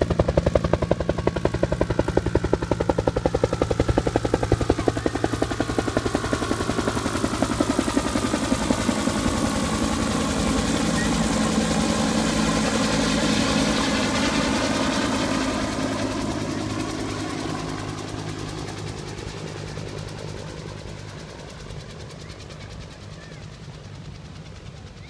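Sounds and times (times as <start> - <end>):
helicopter flying past: 0.0 - 25.0.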